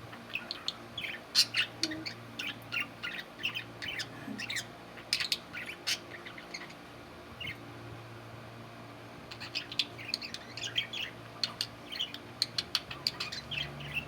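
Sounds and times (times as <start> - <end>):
budgerigars chirping: 0.1 - 6.8, 9.3 - 14.0.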